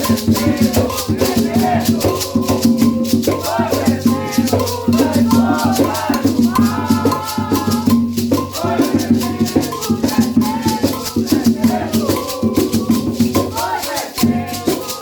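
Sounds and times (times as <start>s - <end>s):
person singing: 0.0s - 15.0s
shaker rattle beat: 0.0s - 15.0s.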